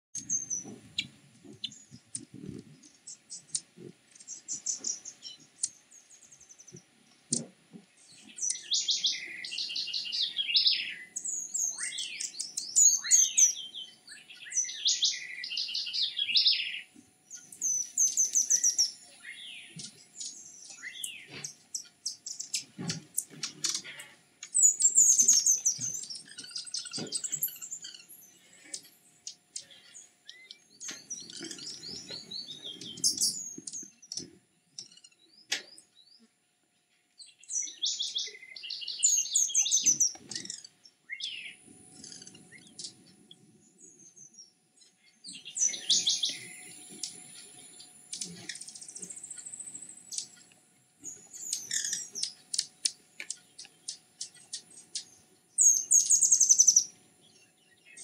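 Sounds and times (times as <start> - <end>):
birds chirping: 0.2 - 58.0.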